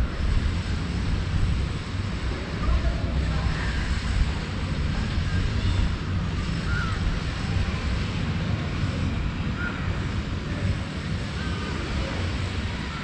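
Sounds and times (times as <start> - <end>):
low rumble of city traffic: 0.0 - 13.0
wind buffeting microphone: 0.0 - 13.0.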